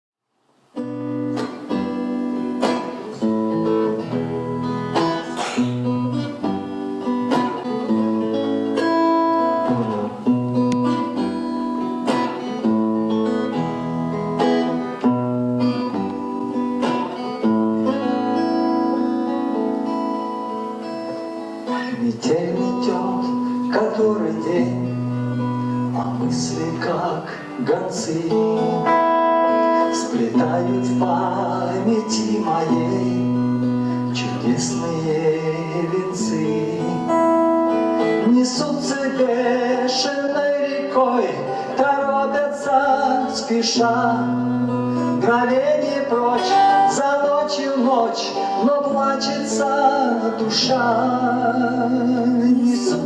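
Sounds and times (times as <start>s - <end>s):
acoustic guitar strumming chords: 0.5s - 53.0s.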